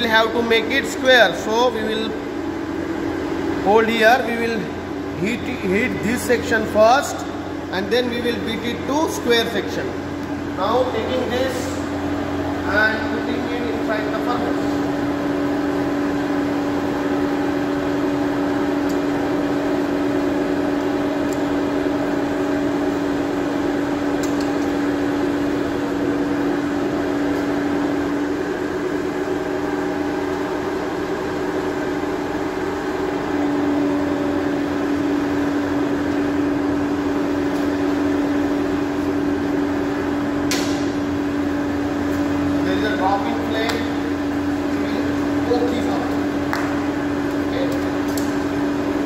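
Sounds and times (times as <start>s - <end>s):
electric air blower humming: 0.0s - 49.0s.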